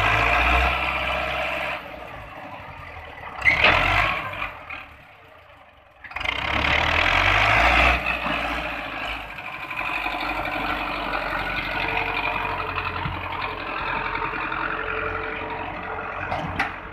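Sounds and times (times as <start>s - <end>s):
tractor diesel engine droning: 0.0s - 16.9s.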